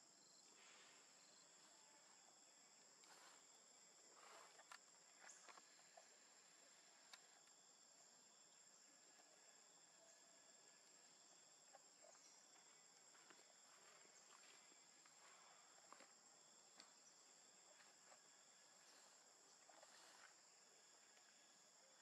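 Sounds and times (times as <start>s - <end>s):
faint ticks and rustles: 0.6s - 10.1s, 10.7s - 22.0s.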